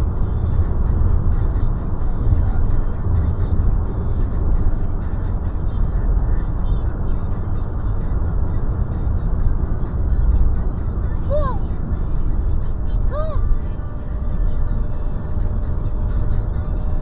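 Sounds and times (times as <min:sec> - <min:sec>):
car engine and tyre road noise: 0:00.0 - 0:17.0.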